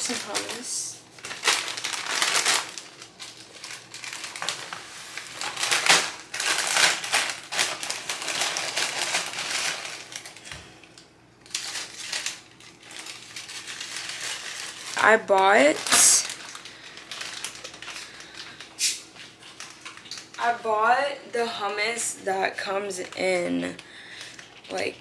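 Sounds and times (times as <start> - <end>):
chips rustling and crackling: 0.0 - 20.5
plastic chip bag crinkling: 0.0 - 20.8, 21.9 - 25.0.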